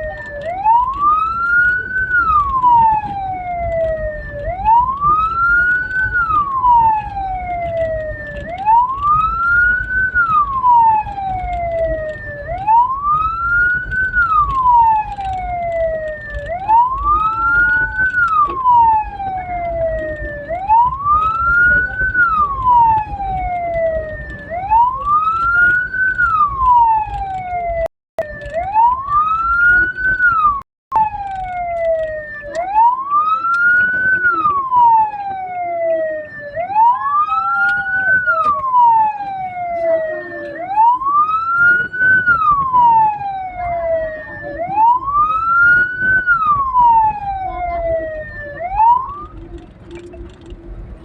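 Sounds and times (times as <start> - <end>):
moving vehicle rumble: 0.0 - 51.0
siren wailing: 0.0 - 51.0.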